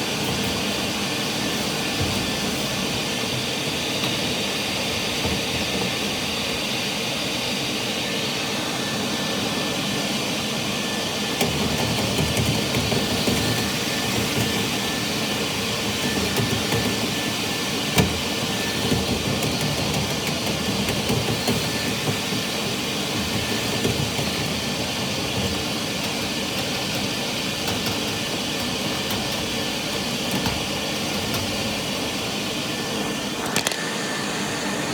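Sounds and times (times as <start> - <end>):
vent cleaning machine rushing: 0.0 - 34.9.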